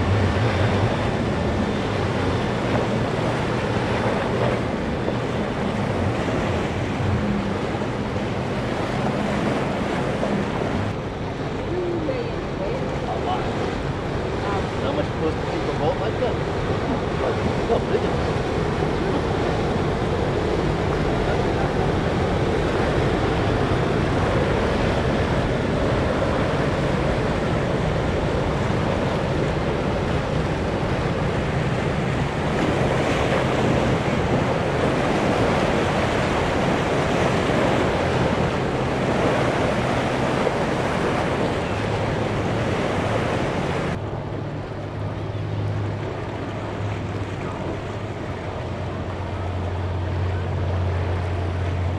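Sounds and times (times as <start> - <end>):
boat engines humming: 0.0 - 51.9
surf breaking: 0.0 - 51.9
wind buffeting microphone: 0.0 - 51.9.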